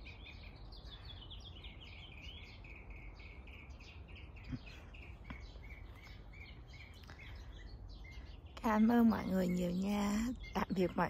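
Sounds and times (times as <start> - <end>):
low outdoor rumble: 0.0 - 11.0
small bird chirping: 0.0 - 11.0.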